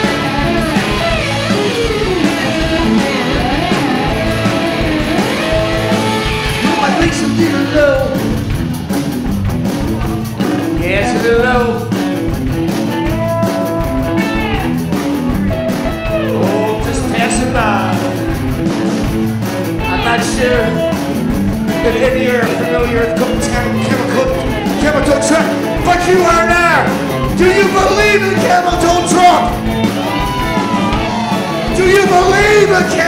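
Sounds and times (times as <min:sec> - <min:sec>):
electric guitar: 0:00.0 - 0:33.0
rock band playing live: 0:00.0 - 0:33.0.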